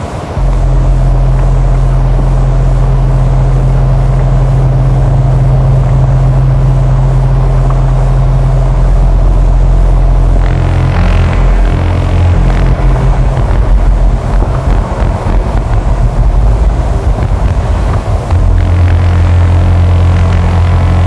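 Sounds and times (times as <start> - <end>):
low droning hum: 0.0 - 21.0.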